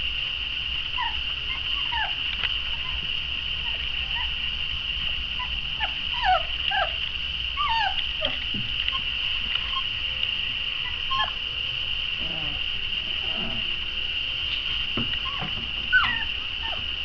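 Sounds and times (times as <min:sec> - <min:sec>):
high-pitched whine: 0:00.0 - 0:17.0
puppies whimpering and squealing: 0:00.9 - 0:04.5, 0:05.3 - 0:17.0.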